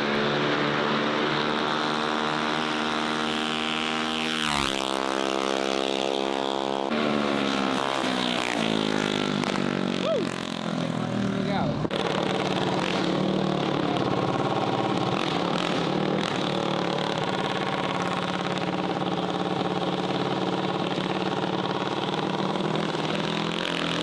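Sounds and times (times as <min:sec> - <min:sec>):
mini bike engine idling: 0:00.0 - 0:24.0.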